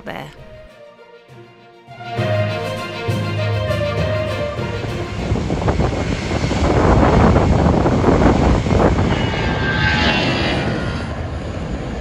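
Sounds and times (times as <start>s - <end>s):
engine whine: 2.0s - 12.0s
aircraft engines rumbling: 2.1s - 12.0s.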